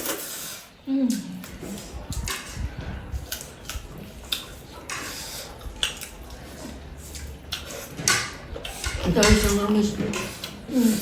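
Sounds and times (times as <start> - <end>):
chewing: 0.0 - 11.0
utensil scraping a plate: 1.4 - 11.0.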